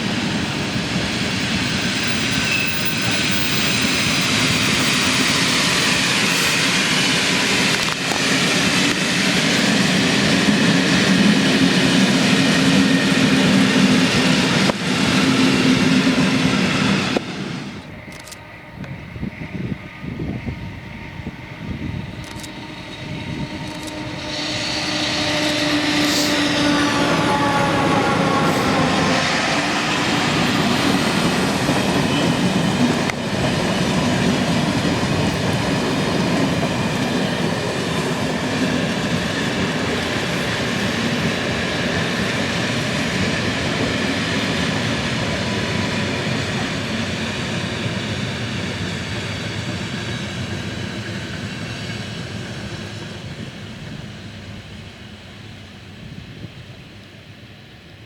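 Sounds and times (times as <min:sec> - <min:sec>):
train wheels rumbling on rails: 0:00.0 - 0:58.0
train whine: 0:00.0 - 0:58.0.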